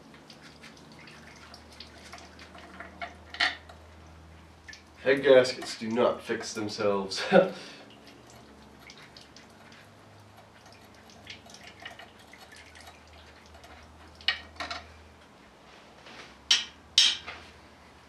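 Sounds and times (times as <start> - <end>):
sharp drips and splashes: 0.0 - 14.6
coolant dripping and trickling: 0.0 - 15.1.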